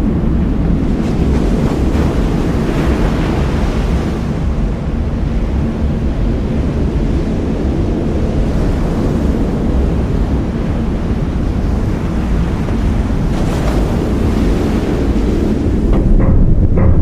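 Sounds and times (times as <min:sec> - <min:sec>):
storm waves: 0:00.0 - 0:17.0
wind: 0:00.0 - 0:17.0.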